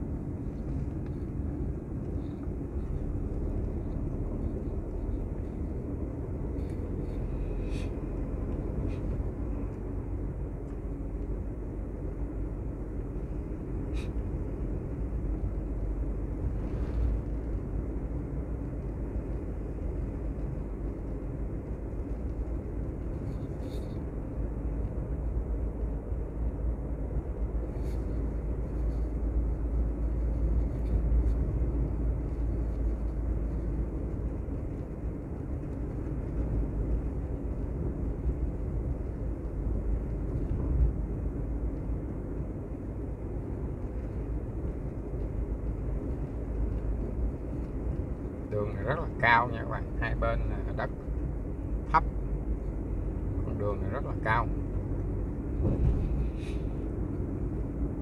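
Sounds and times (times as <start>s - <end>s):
faint engine hum: 0.0s - 58.0s
road and wind rumble: 0.0s - 58.0s.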